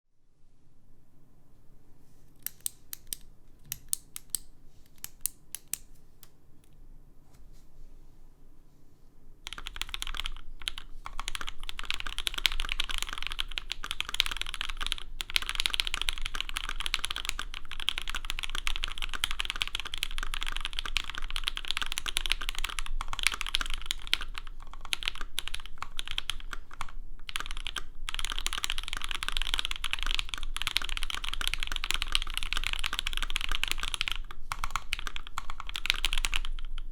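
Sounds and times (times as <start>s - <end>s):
mechanical keyboard typing: 2.4s - 5.9s, 9.5s - 36.9s.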